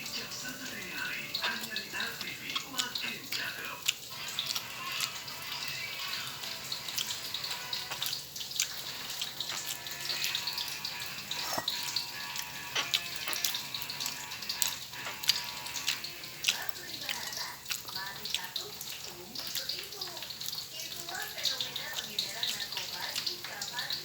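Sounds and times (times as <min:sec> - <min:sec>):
food frying in hot oil: 0:00.0 - 0:24.0.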